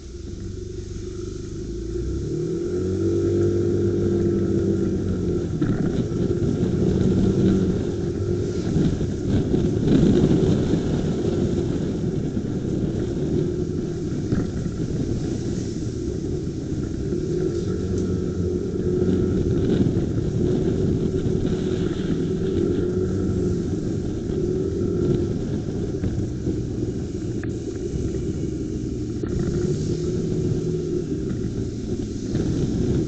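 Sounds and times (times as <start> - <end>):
motorcycle engine: 0.0 - 33.0
road and wind rumble: 0.0 - 33.0.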